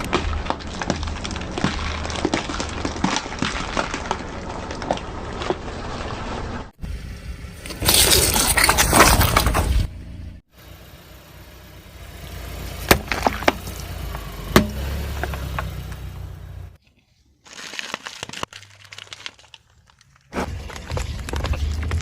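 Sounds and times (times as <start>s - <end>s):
car tyre crushing objects: 0.0s - 6.8s, 7.5s - 10.3s, 12.2s - 16.8s, 17.4s - 22.0s.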